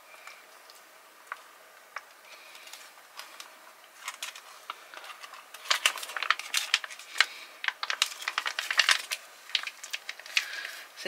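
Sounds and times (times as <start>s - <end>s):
foil pouch crinkling: 2.0s - 10.9s.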